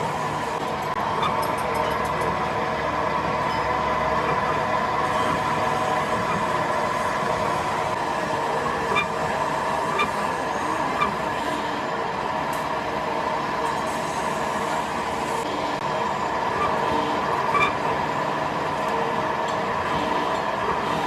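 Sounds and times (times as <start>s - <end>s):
workshop machinery hum: 0.0s - 21.0s.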